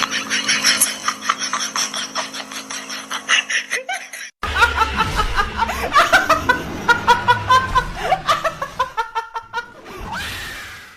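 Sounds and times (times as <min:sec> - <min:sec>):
high-pitched laughter: 0:00.0 - 0:09.7.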